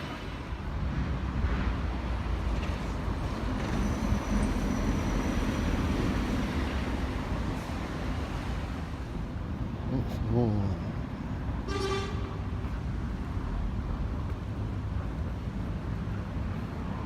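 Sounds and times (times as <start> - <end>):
traffic rumbling past: 0.0 - 17.0.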